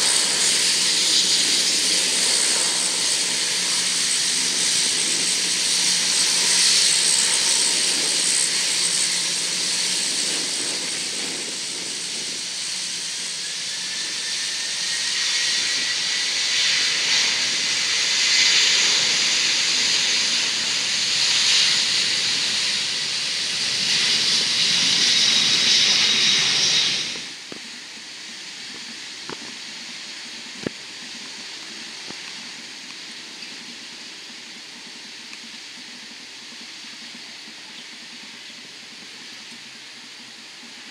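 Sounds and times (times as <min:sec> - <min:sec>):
turboprop engines running: 0:00.0 - 0:40.9.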